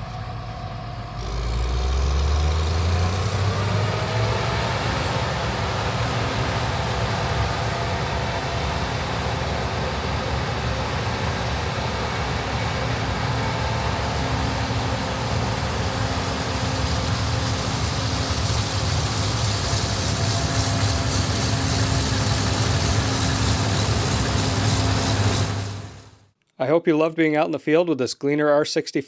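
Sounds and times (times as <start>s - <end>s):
combine harvester engine drone: 0.0s - 26.3s.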